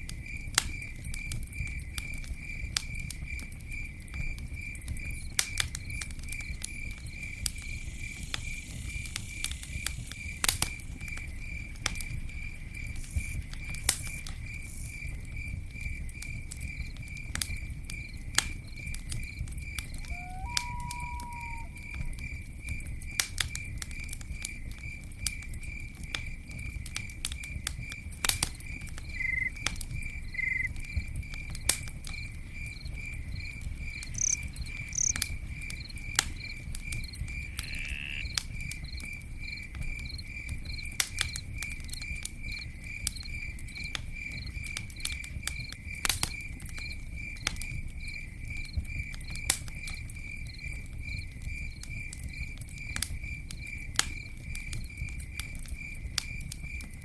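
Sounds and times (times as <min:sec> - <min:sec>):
campfire crackling and popping: 0:00.0 - 0:57.0
cricket chirping: 0:00.1 - 0:57.0.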